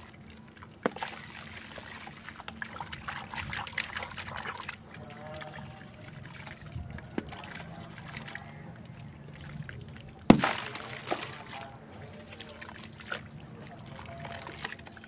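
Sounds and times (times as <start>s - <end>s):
muddy water sloshing and trickling: 0.0s - 15.0s
splashes in water: 0.0s - 15.0s.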